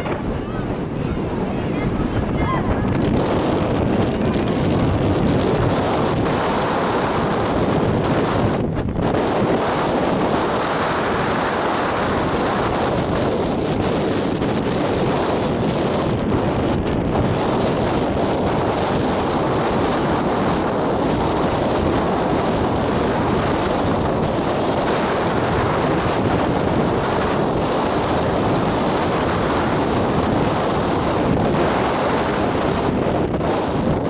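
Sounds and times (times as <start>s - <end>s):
wind on microphone: 0.0s - 34.0s.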